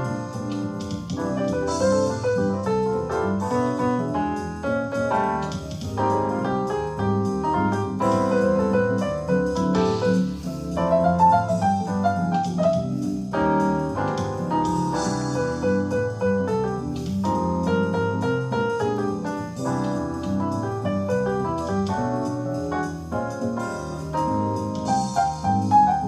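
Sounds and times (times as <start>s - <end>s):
jazz piano on electronic keyboard: 0.0s - 26.0s.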